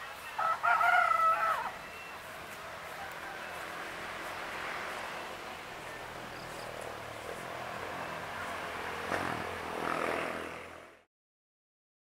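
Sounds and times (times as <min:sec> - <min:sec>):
rustle: 0:00.0 - 0:10.9
outdoor background hiss: 0:00.0 - 0:11.1.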